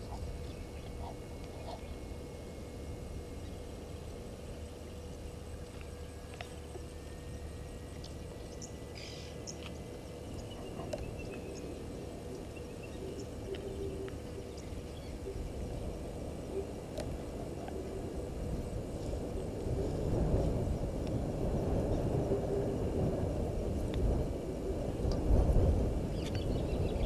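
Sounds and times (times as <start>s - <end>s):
faint constant hum: 0.0s - 27.0s.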